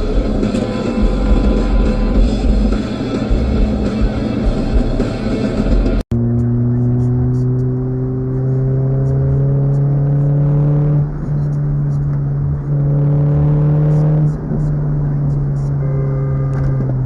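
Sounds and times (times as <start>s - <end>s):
vehicle engine accelerating: 0.0s - 17.0s.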